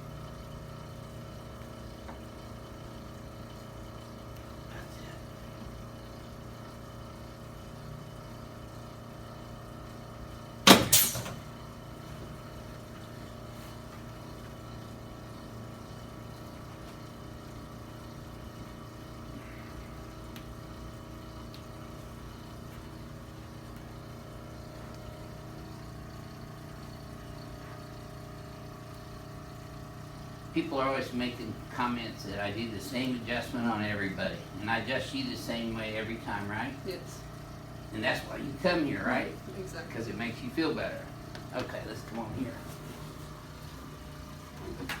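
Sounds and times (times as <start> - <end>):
low mechanical hum: 0.0 - 45.0.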